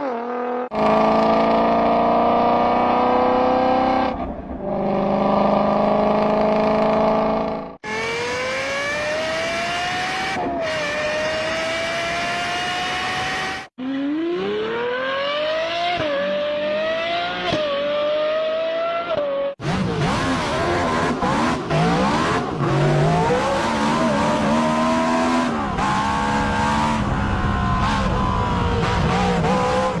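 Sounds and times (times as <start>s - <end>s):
car engine accelerating through gears: 0.0s - 30.0s
car engine revving: 0.0s - 30.0s.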